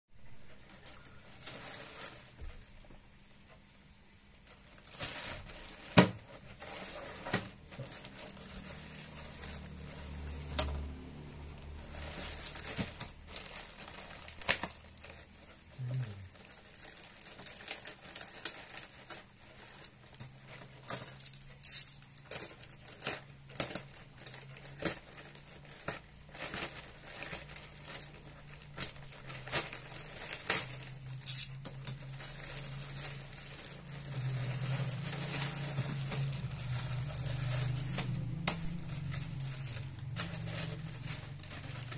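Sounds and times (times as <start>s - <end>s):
plastic mailer bag crinkling and tearing: 0.2s - 2.8s, 4.4s - 41.9s.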